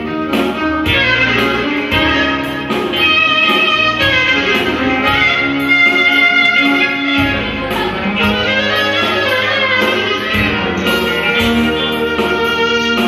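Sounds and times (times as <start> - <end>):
clarinet melody: 0.0 - 13.0
keyboard bass notes: 0.0 - 13.0
violin: 0.0 - 13.0.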